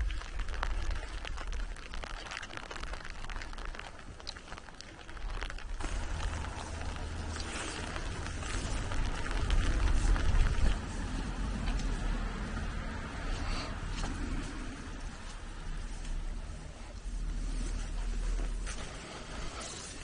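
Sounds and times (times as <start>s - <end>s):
light rain pattering: 0.0s - 20.0s
wind rumbling on microphone: 0.0s - 20.0s.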